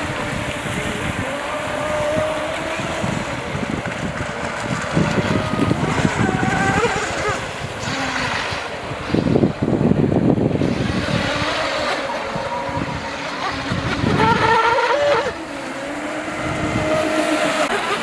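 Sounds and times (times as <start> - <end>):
rc boat motors whining: 0.0 - 18.0
wind buffeting microphone: 0.0 - 18.0.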